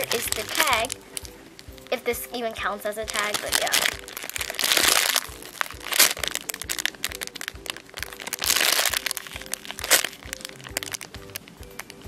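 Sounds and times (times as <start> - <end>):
plastic bag crinkling: 0.0 - 2.0, 3.0 - 12.0
quiet background music: 0.0 - 12.0.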